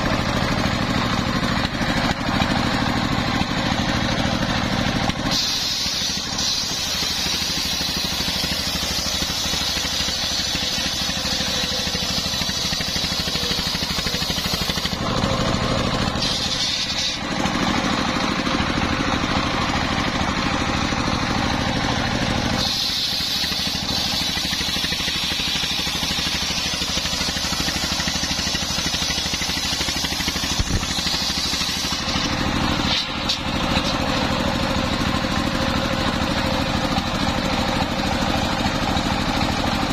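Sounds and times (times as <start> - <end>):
circular saw cutting wood: 0.0 - 39.9
stationary engine running: 0.0 - 39.9.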